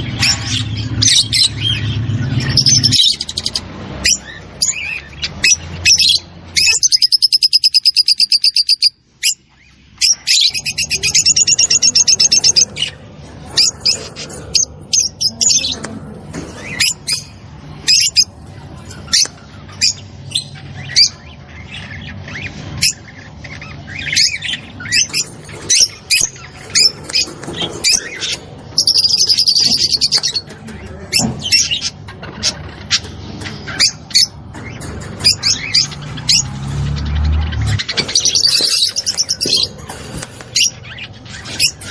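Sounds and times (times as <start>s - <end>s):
lovebirds chirping and squeaking: 0.0s - 41.9s.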